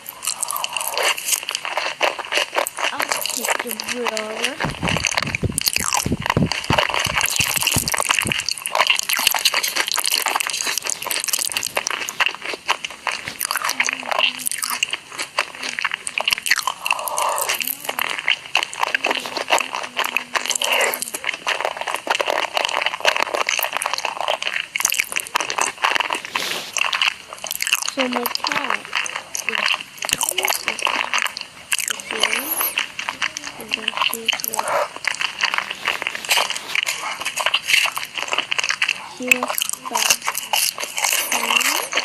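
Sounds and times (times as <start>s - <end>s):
crunching and chewing food: 0.0s - 42.0s.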